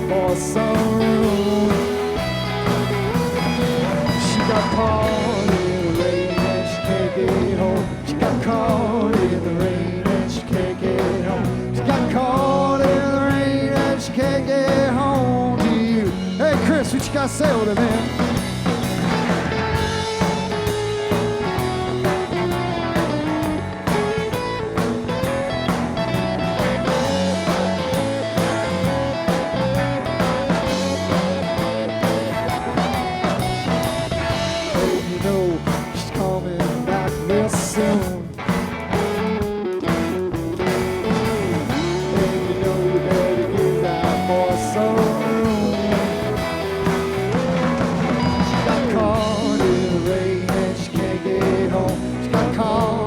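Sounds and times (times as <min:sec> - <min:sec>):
blues rock band playing: 0:00.0 - 0:53.0
lead guitar line bending: 0:00.0 - 0:53.0.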